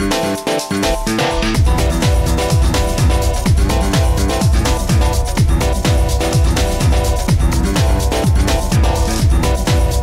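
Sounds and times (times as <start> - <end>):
electronic dance music: 0.0 - 10.0
synth melody: 0.0 - 10.0
steady kick drum: 0.8 - 10.0.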